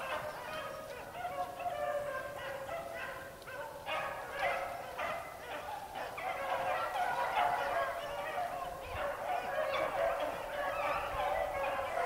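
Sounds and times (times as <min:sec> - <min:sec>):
pack of hounds baying: 0:00.0 - 0:12.0.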